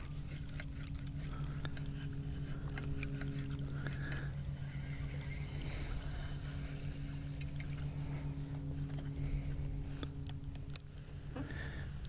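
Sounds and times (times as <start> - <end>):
faint water noise: 0.0 - 12.0
steady low hum: 0.0 - 12.0.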